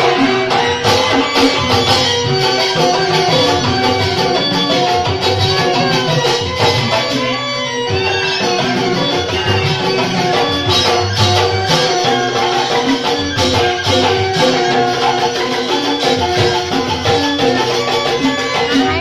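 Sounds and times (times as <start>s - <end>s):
bamboo xylophones ringing: 0.0s - 19.0s
sharp percussion strokes: 0.0s - 19.0s.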